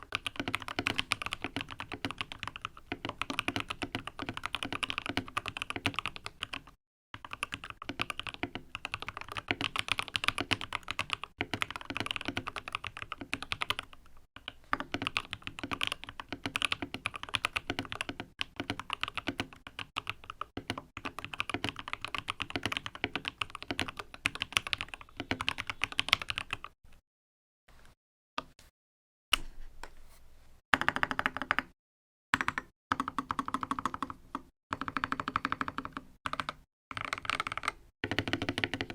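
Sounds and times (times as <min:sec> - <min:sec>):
mechanical keyboard typing: 0:00.0 - 0:14.0, 0:14.7 - 0:26.8, 0:30.8 - 0:31.7, 0:32.4 - 0:38.9.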